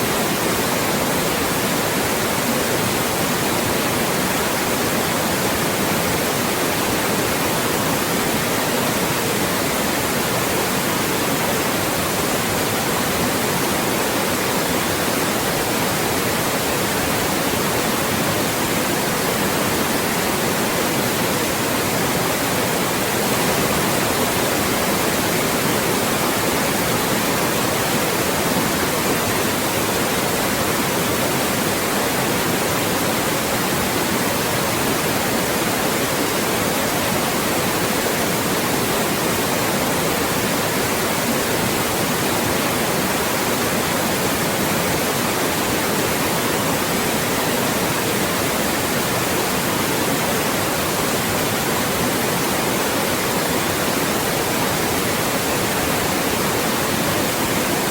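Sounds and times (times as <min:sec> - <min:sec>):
loud white noise hiss: 0:00.0 - 0:57.9.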